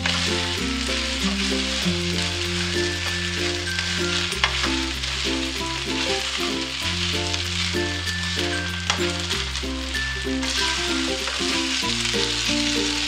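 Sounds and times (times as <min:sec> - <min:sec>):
background music with bass: 0:00.0 - 0:13.0
rice sizzling in a wok: 0:00.0 - 0:13.0
spatula stirring in wok: 0:00.0 - 0:13.0.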